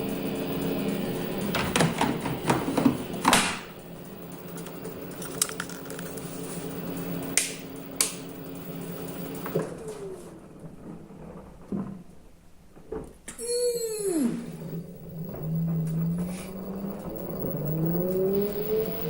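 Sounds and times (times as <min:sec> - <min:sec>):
washing machine motor hum: 0:00.0 - 0:11.8, 0:13.4 - 0:19.0.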